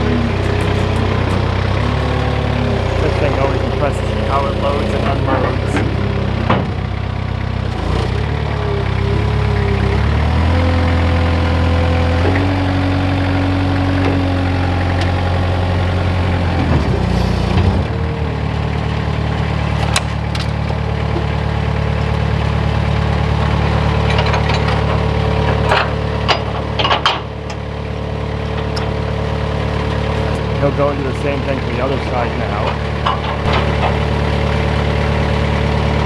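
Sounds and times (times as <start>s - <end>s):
forklift engine running: 0.0s - 36.0s.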